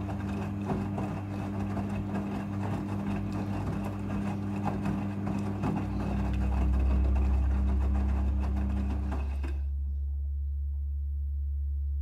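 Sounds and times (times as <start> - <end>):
clothes and water swishing in drum: 0.0 - 9.7
washing machine motor hum: 0.0 - 9.9.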